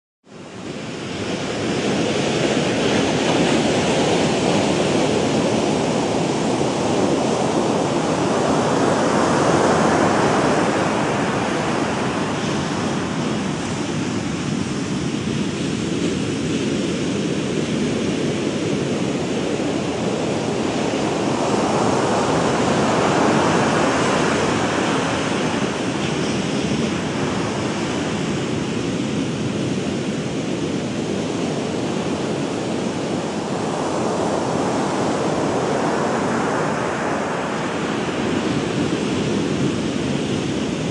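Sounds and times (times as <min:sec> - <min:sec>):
ocean waves breaking: 0:00.6 - 0:40.9.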